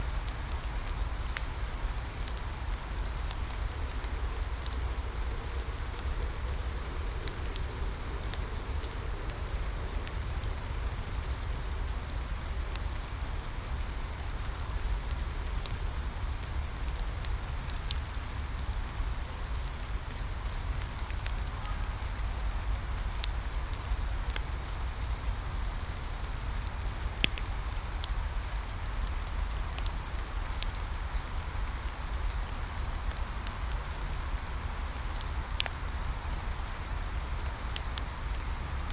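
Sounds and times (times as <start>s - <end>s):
steady rain falling: 0.0s - 38.9s
wood fire crackling: 0.0s - 38.9s.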